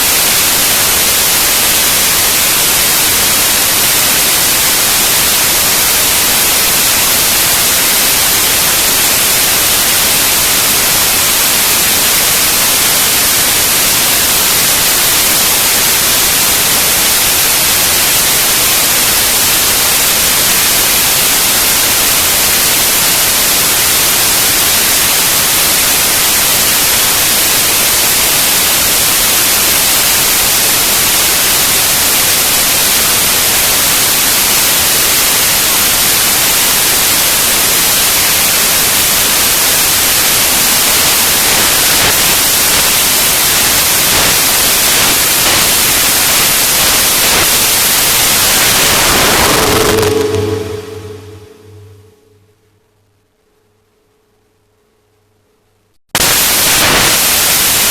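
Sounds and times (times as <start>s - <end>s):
static hiss: 0.0s - 52.5s, 56.2s - 57.9s.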